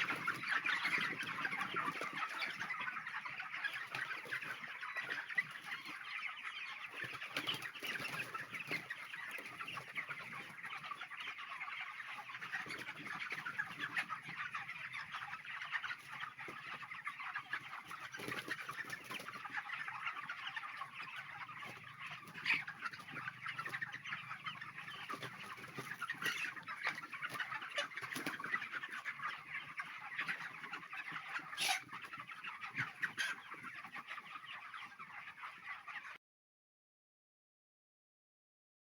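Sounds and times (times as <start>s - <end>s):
chickens clucking and chirping: 0.0s - 36.2s
sharp chicken calls: 0.0s - 36.2s.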